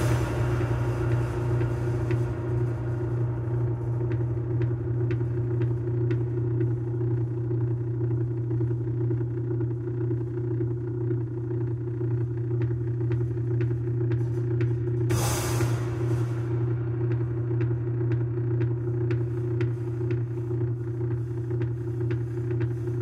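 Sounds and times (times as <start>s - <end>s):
piano strings humming drone: 0.0s - 23.0s.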